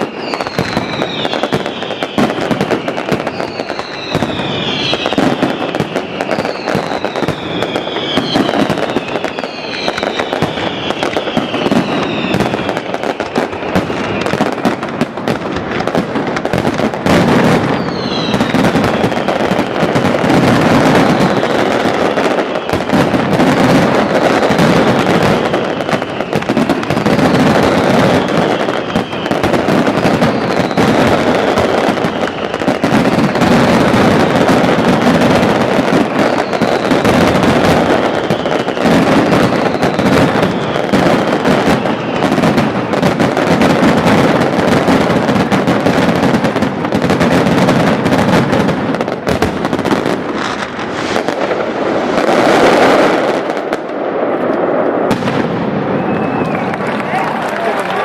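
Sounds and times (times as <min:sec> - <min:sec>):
firework whistles falling in pitch: 0:00.0 - 0:15.0, 0:15.9 - 0:47.3, 0:54.9 - 0:56.8
fireworks bangs and crackling: 0:00.0 - 0:58.0.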